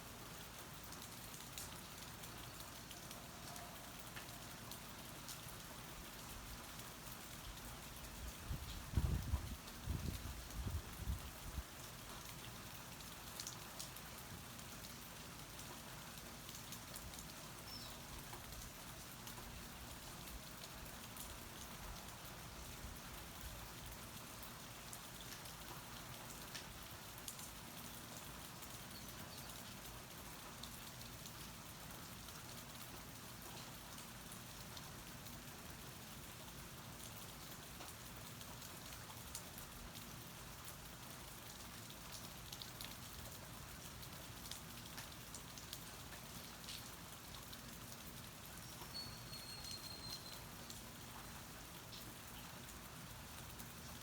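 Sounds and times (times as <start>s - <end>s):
raindrops ticking close by: 0.0s - 54.0s
steady rain falling: 0.0s - 54.0s.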